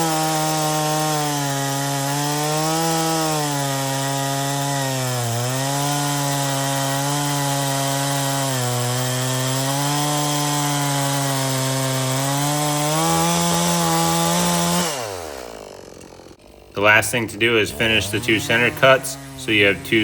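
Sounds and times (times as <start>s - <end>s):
chainsaw cutting through a log: 0.0s - 20.0s.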